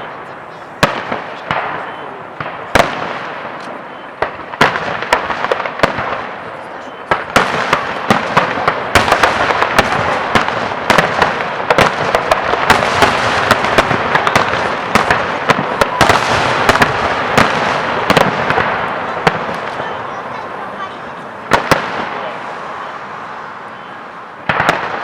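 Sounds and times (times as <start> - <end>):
firework crackling: 0.0 - 25.0.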